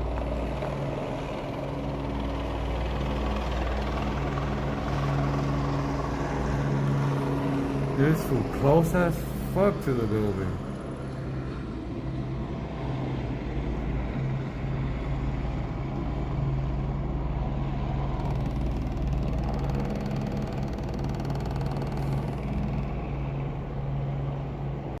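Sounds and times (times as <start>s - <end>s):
helicopter flying overhead: 0.0s - 25.0s.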